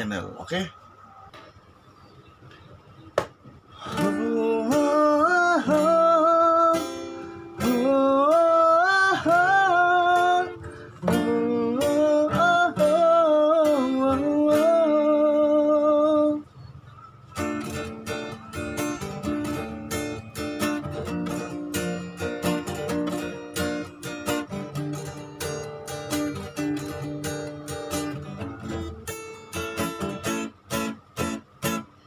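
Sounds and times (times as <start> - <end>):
song with strummed acoustic guitar: 3.7 - 32.0.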